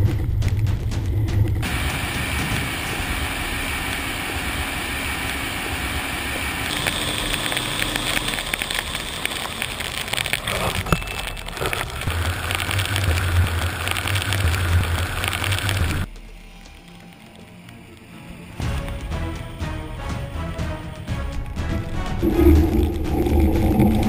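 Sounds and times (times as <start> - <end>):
truck engine drone: 0.1 - 21.0
snow plowing and road noise: 1.6 - 24.0.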